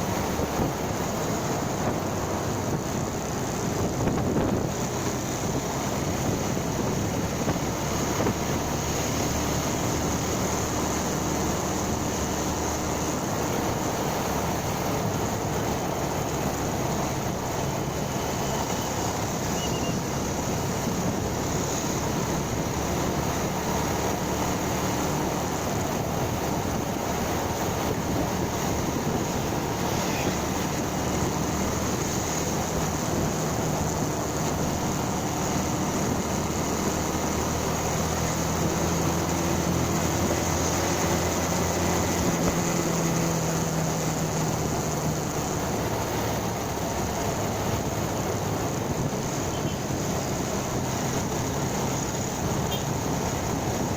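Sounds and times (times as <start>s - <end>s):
motorcycle engine running: 0.0s - 53.9s
wind on microphone: 0.0s - 53.9s.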